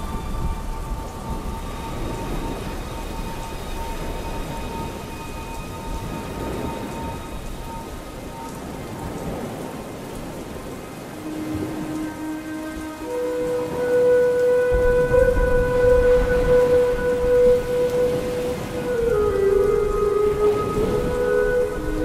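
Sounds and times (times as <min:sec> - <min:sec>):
low thunder rumbles: 0:00.0 - 0:13.8, 0:14.6 - 0:22.0
faint held music notes: 0:00.0 - 0:22.0
steady rain: 0:00.0 - 0:22.0.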